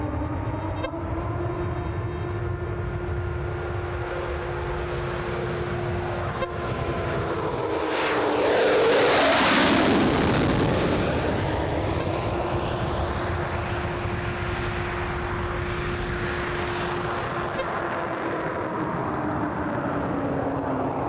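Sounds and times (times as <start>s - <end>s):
jet engines whining and rumbling: 0.0s - 21.0s.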